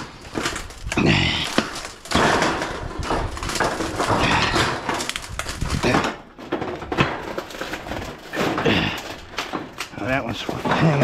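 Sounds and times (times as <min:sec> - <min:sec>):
knocks and rattles: 0:00.0 - 0:11.0.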